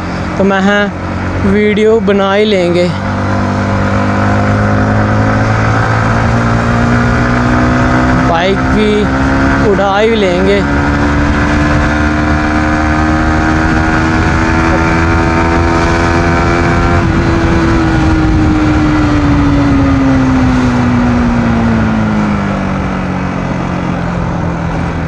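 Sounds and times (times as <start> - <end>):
motorcycle engine: 0.0 - 25.0
road and wind noise: 0.0 - 25.0.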